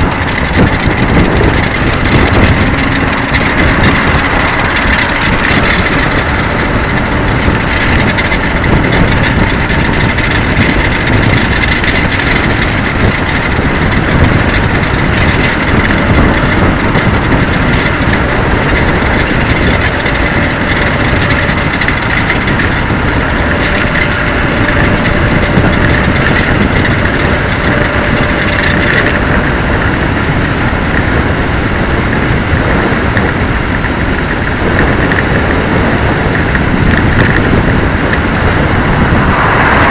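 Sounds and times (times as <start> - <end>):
small motorcycle engine running: 0.0 - 39.9
wind and road noise: 0.0 - 39.9.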